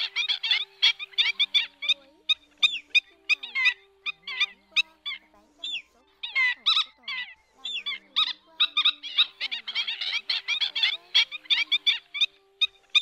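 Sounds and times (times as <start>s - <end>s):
birds yapping calls: 0.0s - 13.0s.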